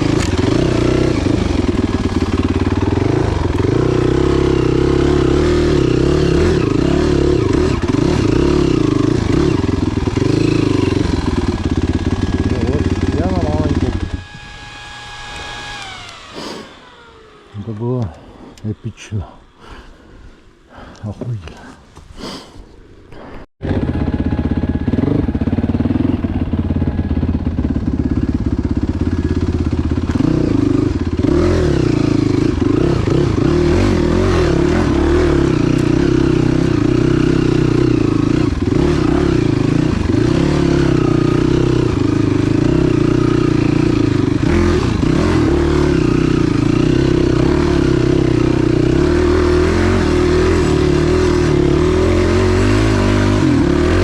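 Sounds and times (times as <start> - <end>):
motorcycle engine revving: 0.0 - 20.9, 23.6 - 54.0.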